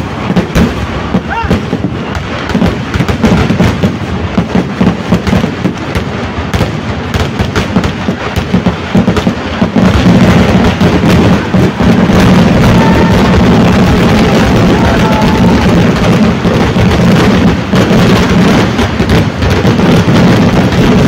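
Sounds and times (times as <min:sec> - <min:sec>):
fireworks banging: 0:00.0 - 0:21.0.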